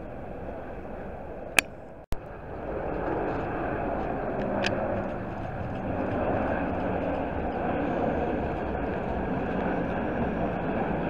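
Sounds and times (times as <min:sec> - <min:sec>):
jet engines of airliner: 0:00.0 - 0:11.0.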